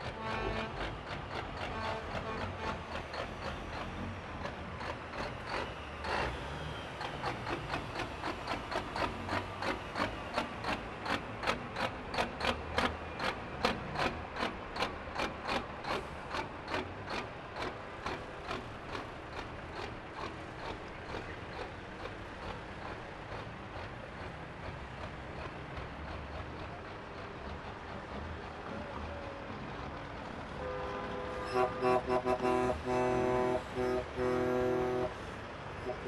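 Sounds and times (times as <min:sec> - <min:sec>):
diesel truck engines rumbling: 0:00.0 - 0:36.0.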